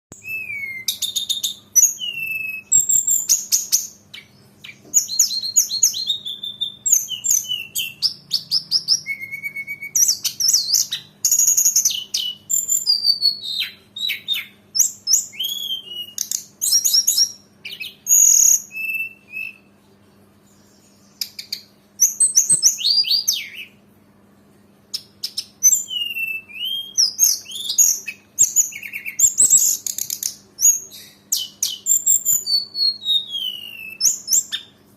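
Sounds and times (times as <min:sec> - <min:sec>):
robin singing: 0:00.1 - 0:23.9, 0:24.9 - 0:34.9
faint low hum: 0:00.2 - 0:34.9.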